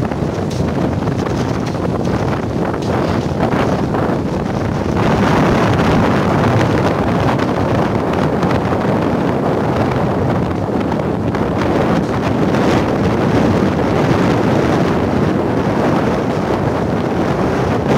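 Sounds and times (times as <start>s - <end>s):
sea surf: 0.0s - 17.9s
wind buffeting microphone: 0.0s - 17.9s.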